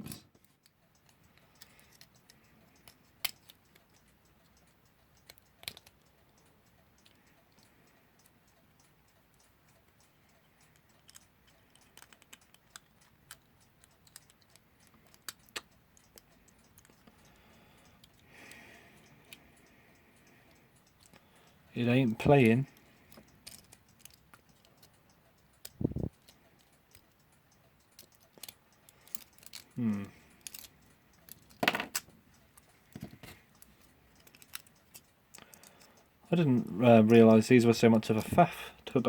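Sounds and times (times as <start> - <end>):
small metal parts clicking: 0.0 - 8.3, 10.6 - 18.6, 20.8 - 36.0.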